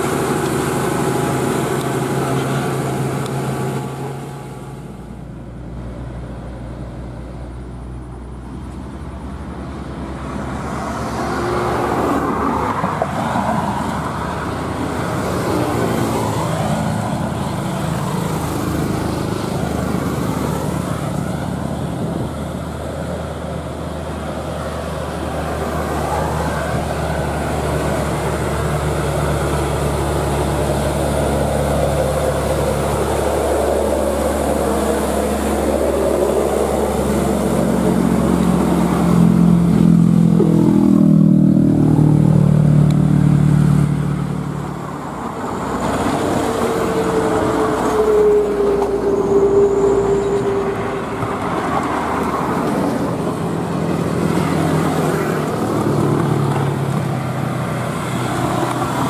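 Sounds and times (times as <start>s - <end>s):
truck diesel engine pulling uphill: 0.0s - 59.0s
truck engine whine: 0.0s - 59.0s.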